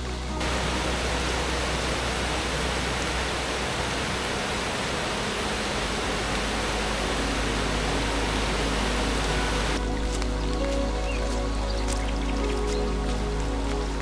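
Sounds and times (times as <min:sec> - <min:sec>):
low rumble: 0:00.0 - 0:14.0
water rushing: 0:00.0 - 0:14.0.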